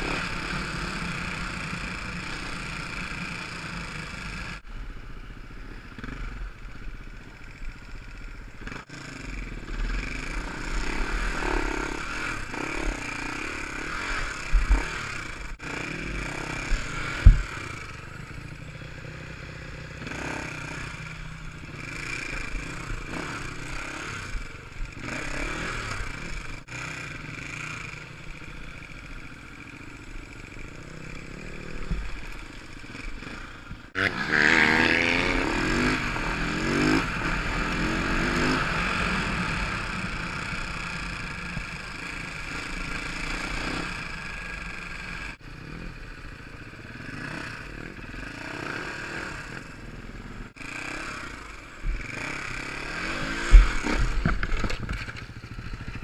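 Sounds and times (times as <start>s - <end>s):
motorcycle engine revving: 0.0s - 4.6s, 5.6s - 56.0s.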